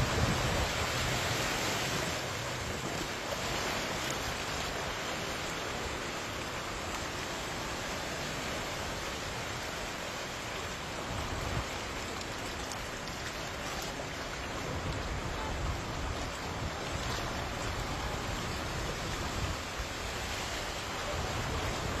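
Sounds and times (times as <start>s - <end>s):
floodwater splashing under cars: 0.0s - 22.0s.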